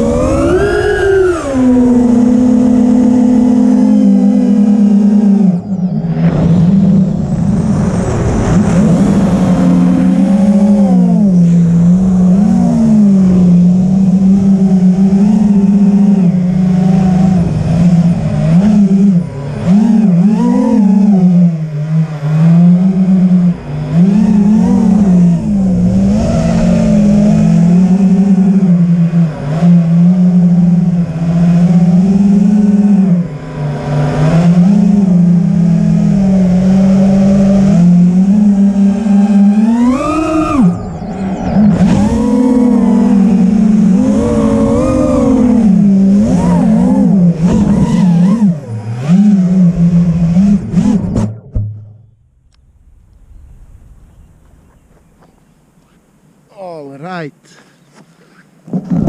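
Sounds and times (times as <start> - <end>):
wavering motor drone: 0.0 - 51.6.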